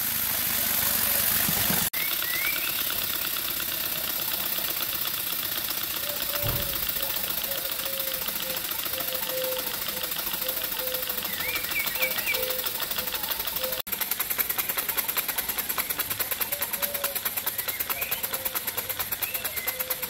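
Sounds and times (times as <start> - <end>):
model steam engine ticking: 0.0 - 20.0.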